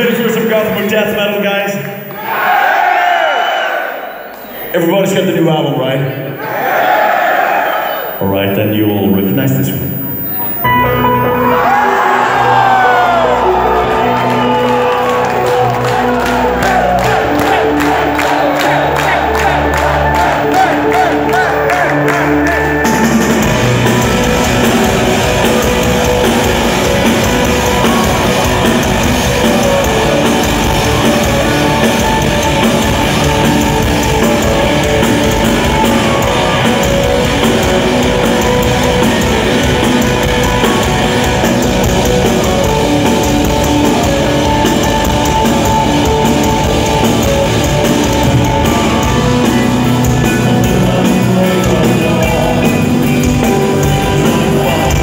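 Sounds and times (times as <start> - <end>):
death metal band playing live: 9.0 - 55.0.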